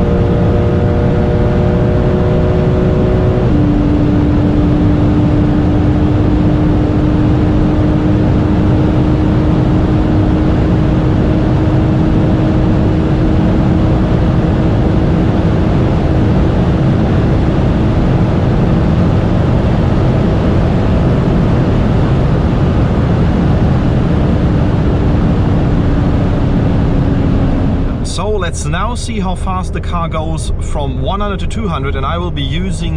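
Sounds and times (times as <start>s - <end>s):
car driving at steady speed: 0.0s - 32.9s.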